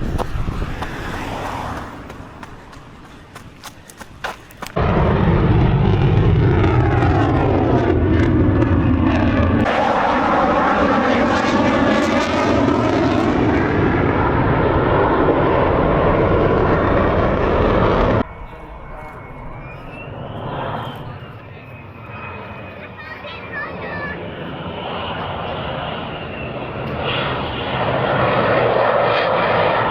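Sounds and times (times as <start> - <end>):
military jet flying past: 0.0 - 29.9.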